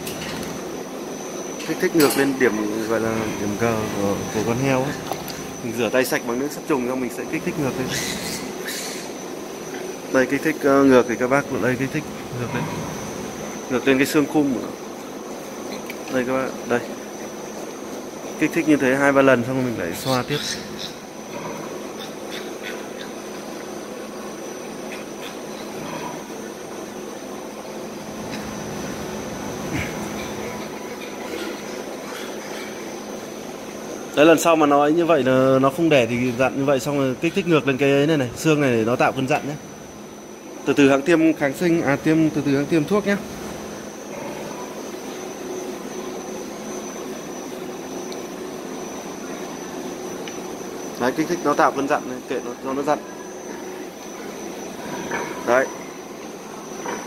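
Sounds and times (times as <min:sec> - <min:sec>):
machine hum with hiss: 0:00.0 - 0:57.0
steady mechanical drone: 0:00.0 - 0:57.0.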